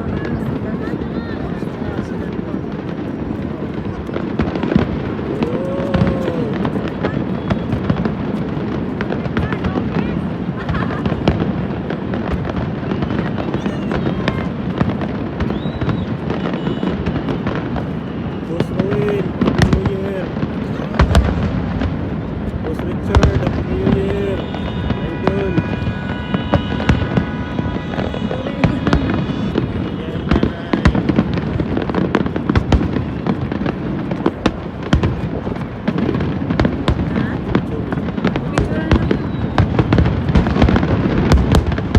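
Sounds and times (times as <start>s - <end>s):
fireworks cracks and pops: 0.0s - 41.9s
fireworks whistles: 4.2s - 37.4s, 38.0s - 41.9s.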